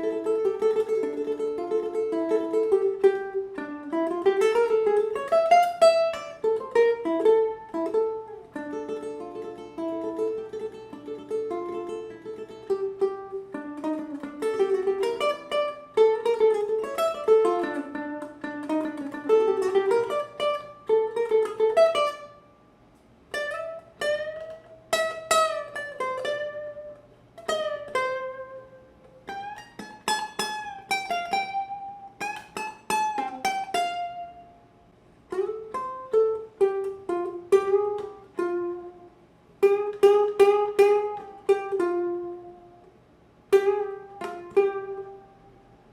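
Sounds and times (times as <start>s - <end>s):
ukulele plucked melody: 0.0s - 22.5s, 23.2s - 34.6s, 35.3s - 45.9s.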